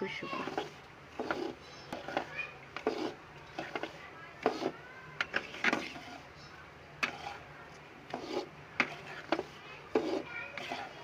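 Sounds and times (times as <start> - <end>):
metal spatula scraping a pan: 0.0 - 7.5, 8.1 - 11.0.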